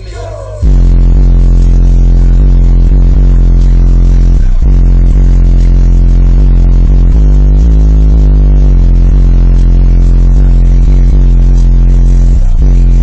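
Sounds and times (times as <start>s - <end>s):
bass-heavy hip-hop beat: 0.0s - 13.0s.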